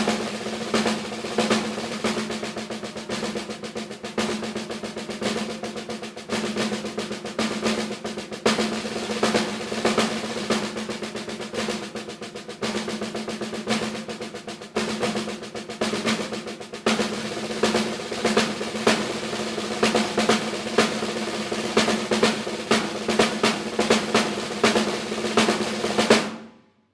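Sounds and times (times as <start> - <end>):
snare drum rolls and strokes: 0.0 - 26.7.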